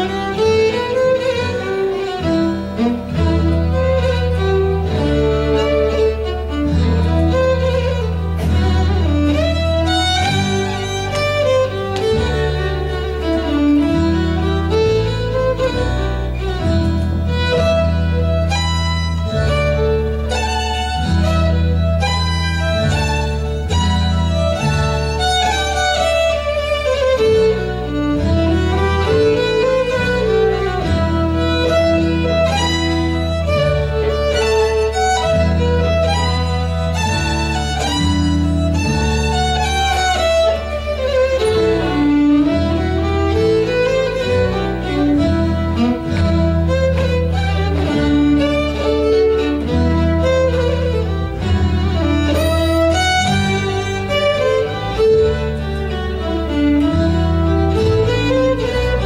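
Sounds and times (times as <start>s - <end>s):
fiddle playing fast tune: 0.0s - 59.0s
sustained low accompaniment: 0.0s - 59.0s.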